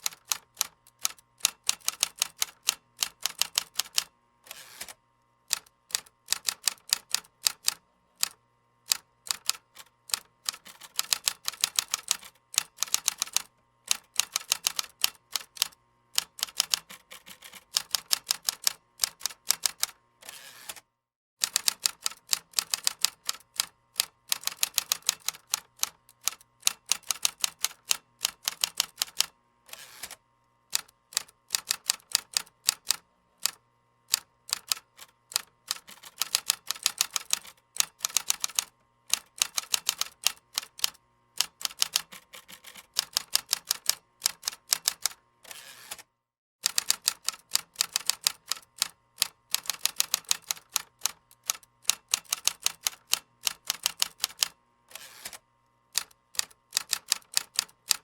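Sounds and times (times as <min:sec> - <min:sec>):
typing on computer keyboard: 0:00.0 - 0:04.1, 0:04.8 - 0:20.8, 0:21.4 - 0:29.3, 0:30.0 - 0:45.2, 0:45.9 - 0:55.4, 0:56.0 - 0:58.0.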